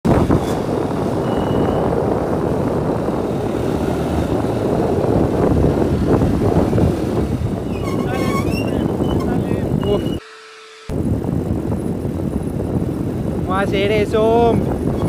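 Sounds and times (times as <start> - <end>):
wind rushing on microphone: 0.0 - 10.2, 10.9 - 15.0.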